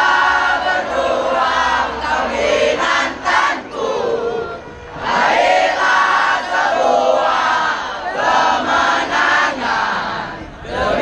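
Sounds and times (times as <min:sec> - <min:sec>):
crowd singing in unison: 0:00.0 - 0:11.0.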